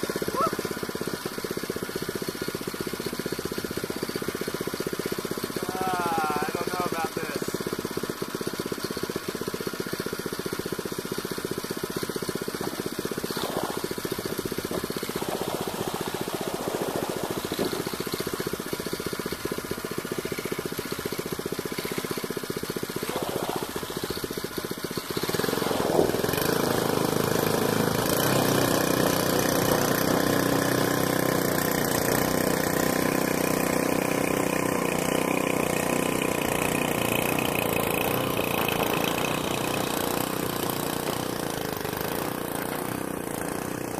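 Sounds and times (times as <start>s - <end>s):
small boat engine running: 0.0s - 43.9s.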